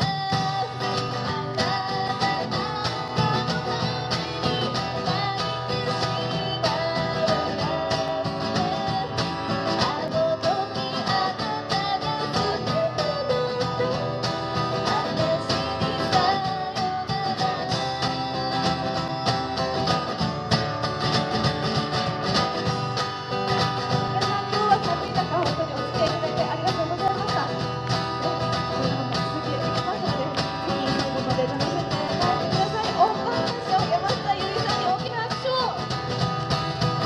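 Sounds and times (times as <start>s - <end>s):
acoustic guitar strumming: 0.0s - 37.0s
wavering guitar melody: 0.0s - 37.0s.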